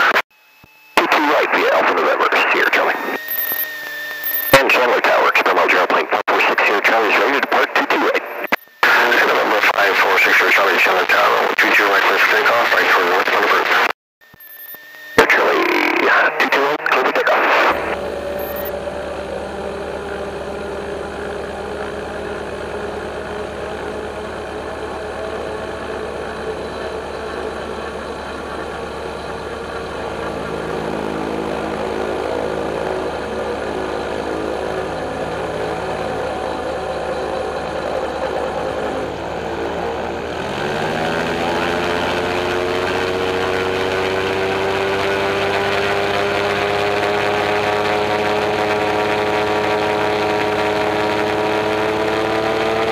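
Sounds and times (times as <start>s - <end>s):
gyroplane engine and propeller: 0.0s - 52.9s.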